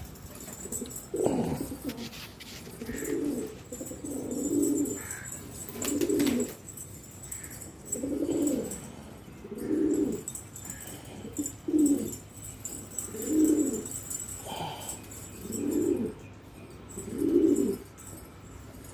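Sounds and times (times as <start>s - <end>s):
pigeons cooing: 0.0s - 18.9s.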